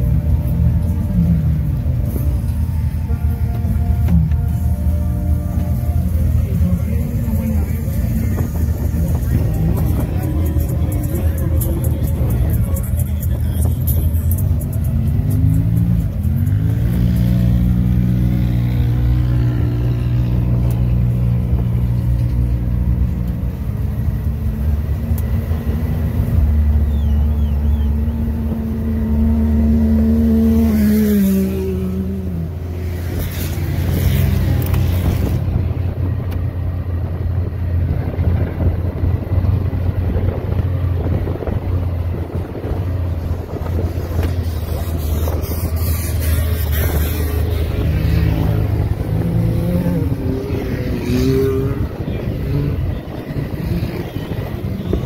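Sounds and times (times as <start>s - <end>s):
off-road vehicle engine: 0.0s - 55.0s
rough rumbling noise: 0.0s - 55.0s.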